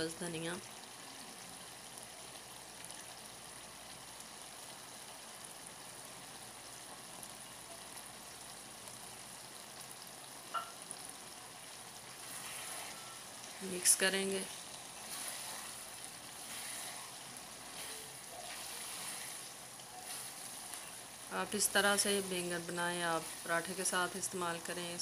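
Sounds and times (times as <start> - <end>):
curry sizzling in oil: 0.0 - 25.0.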